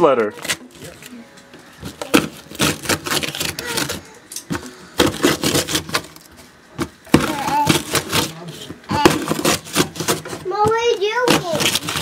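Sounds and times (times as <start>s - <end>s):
paper crunching and tearing: 0.0s - 1.2s, 1.8s - 6.3s, 7.1s - 10.4s, 11.1s - 12.0s.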